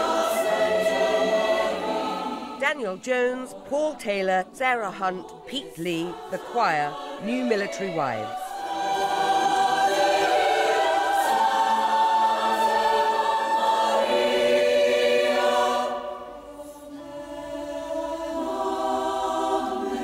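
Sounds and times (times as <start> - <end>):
women's choir singing held chords: 0.0 - 20.0.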